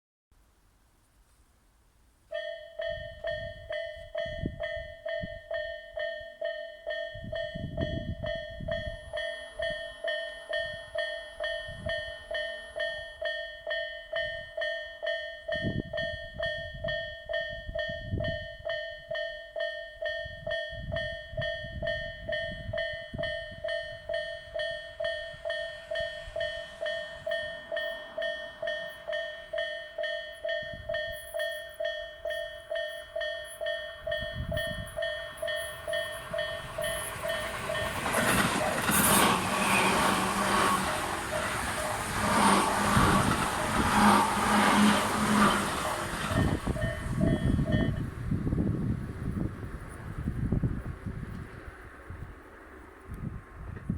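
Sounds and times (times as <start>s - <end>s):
level crossing alarm ringing: 2.3s - 48.1s.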